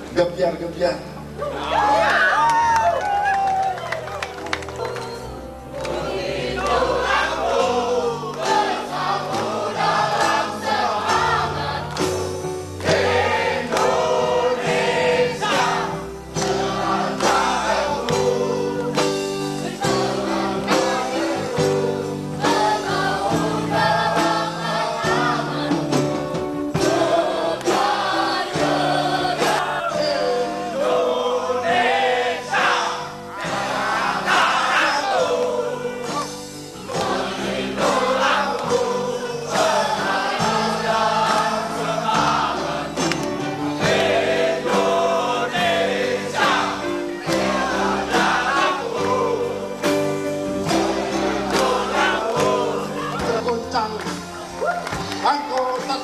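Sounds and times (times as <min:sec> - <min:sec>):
live band with bass line: 0:01.1 - 0:56.0
voices singing together: 0:05.6 - 0:56.0.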